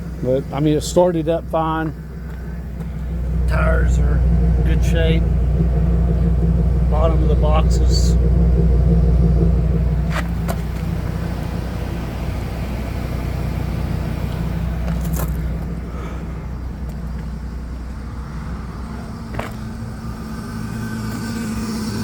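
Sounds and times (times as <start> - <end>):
machinery engine rumbling: 0.0 - 22.0.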